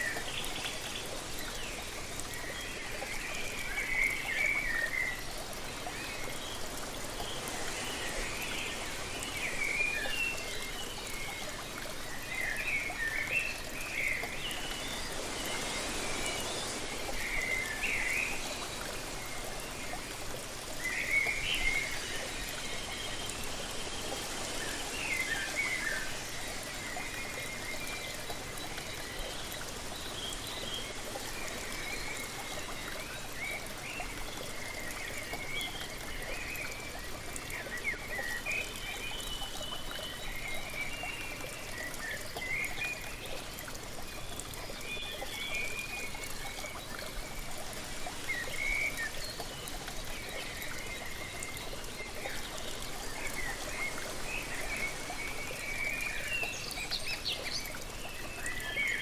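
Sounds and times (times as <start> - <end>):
falling water rushing: 0.0 - 38.1, 41.6 - 59.0.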